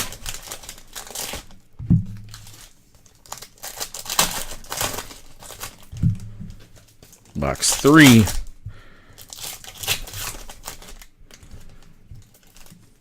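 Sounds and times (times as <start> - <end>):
card packaging crinkling and tearing: 0.0 - 1.6, 2.3 - 6.0, 6.8 - 8.5, 9.2 - 13.0.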